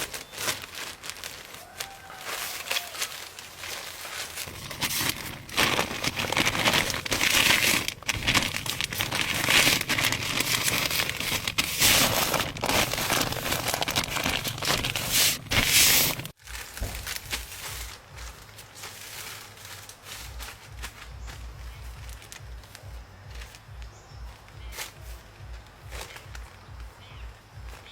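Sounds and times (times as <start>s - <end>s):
crinkling and rustling: 0.0s - 27.9s.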